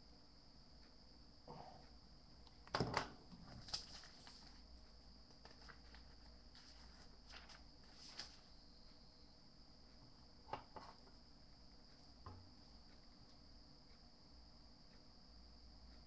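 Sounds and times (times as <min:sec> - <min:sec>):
steady high-pitched whine: 0:00.0 - 0:16.0.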